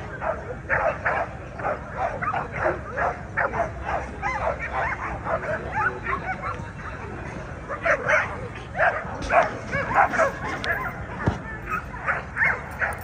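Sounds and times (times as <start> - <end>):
dogs barking and yipping: 0.0 - 6.6, 7.7 - 13.0.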